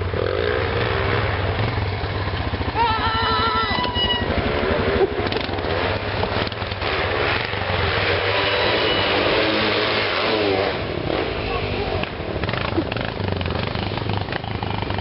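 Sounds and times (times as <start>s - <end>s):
atv engine droning: 0.0s - 15.0s.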